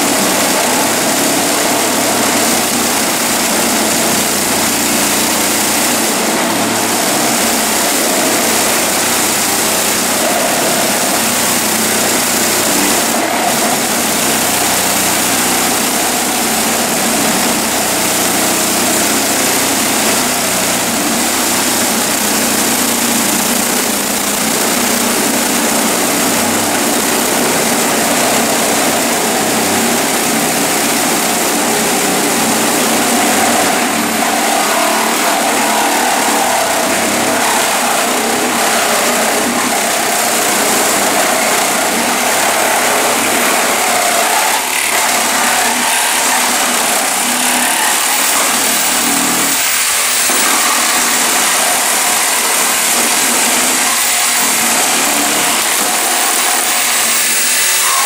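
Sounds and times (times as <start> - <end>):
reciprocating saw cutting: 0.0 - 58.0.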